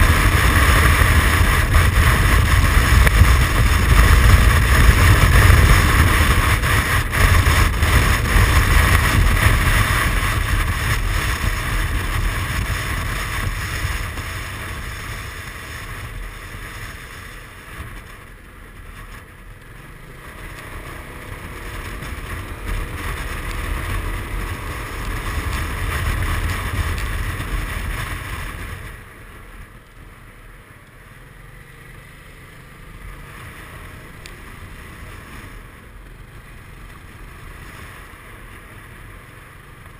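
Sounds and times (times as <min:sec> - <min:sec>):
wind rush while riding scooter: 0:00.0 - 0:39.9.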